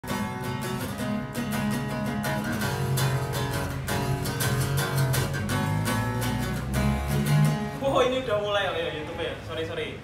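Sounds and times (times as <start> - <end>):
acoustic guitar strumming: 0.0 - 9.0.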